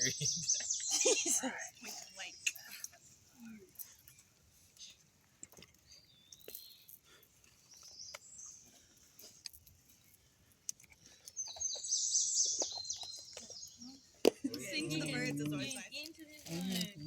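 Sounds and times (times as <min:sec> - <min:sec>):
small songbirds chirping: 0:00.0 - 0:15.9.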